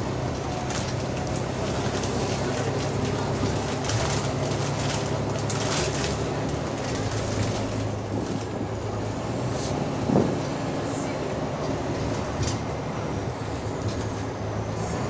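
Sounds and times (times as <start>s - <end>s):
bus diesel engine humming: 0.0s - 15.0s.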